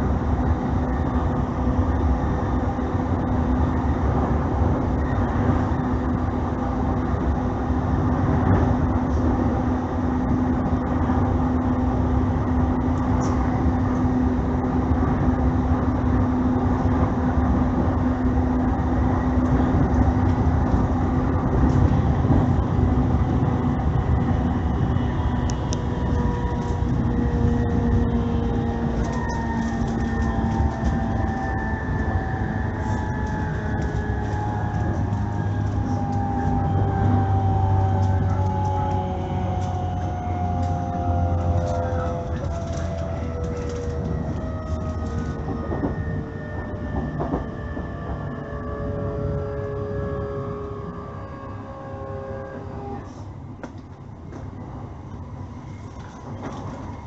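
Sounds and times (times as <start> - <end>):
constant low hum: 0.0 - 57.0
train wheels rumbling: 0.0 - 57.0
high-pitched whine: 0.1 - 53.2.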